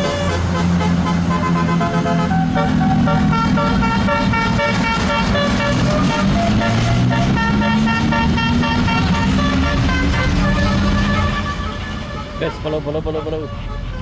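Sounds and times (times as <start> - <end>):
bus engine speeding up: 0.0 - 14.0
bus horn playing a melody: 0.0 - 14.0.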